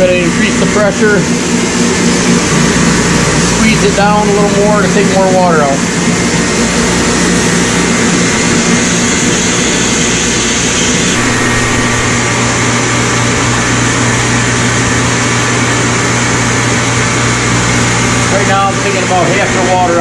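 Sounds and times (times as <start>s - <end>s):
pump hum: 0.0s - 18.2s.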